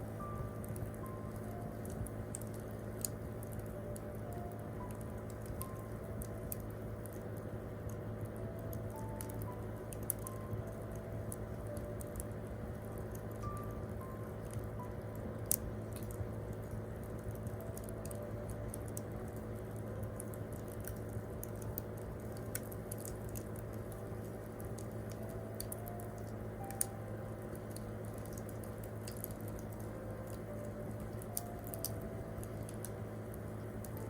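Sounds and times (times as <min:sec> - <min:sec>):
campfire crackling: 0:00.0 - 0:34.0
faint slow piano notes: 0:00.0 - 0:34.0.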